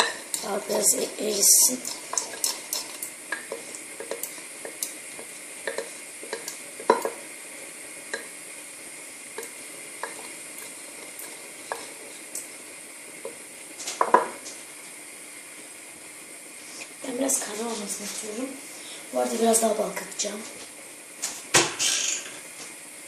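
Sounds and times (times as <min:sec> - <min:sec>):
faint hiss: 0:00.0 - 0:23.0.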